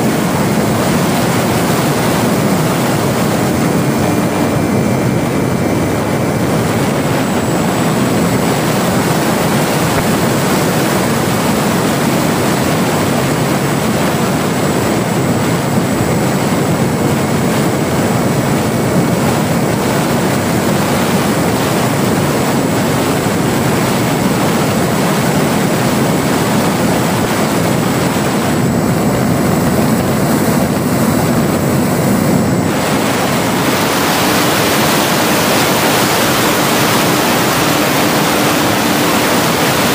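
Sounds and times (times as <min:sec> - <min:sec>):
electric motor and propeller whirr: 0:00.0 - 0:39.9
wind noise: 0:00.0 - 0:39.9.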